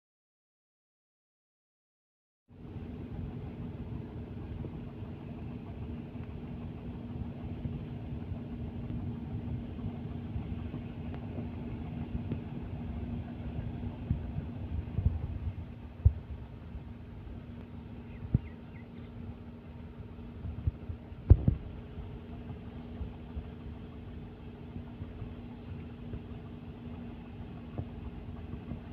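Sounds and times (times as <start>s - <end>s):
diesel engine rumbling: 2.6s - 28.9s.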